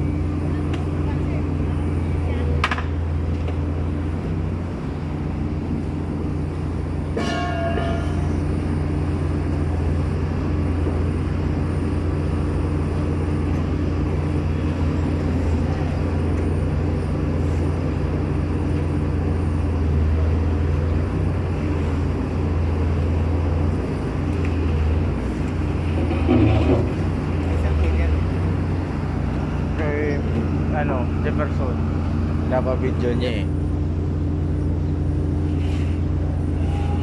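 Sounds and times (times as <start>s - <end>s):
low diesel engine drone: 0.0s - 37.0s.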